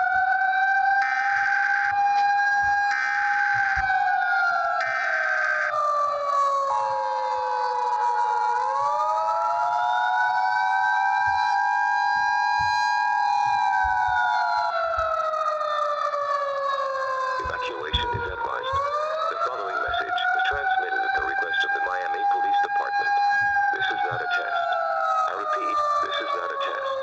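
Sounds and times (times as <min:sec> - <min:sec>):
civil defense siren wailing: 0:00.0 - 0:27.0.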